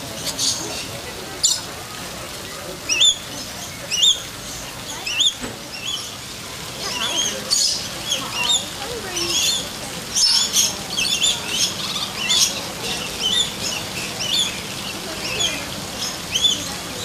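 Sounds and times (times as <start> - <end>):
birds chirping and whistling: 2.8 - 17.0.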